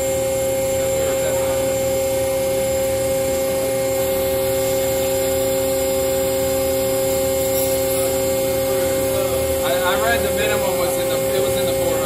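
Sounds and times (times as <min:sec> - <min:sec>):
hydraulic machine hum: 0:00.0 - 0:12.0
steady high whine: 0:00.0 - 0:12.0.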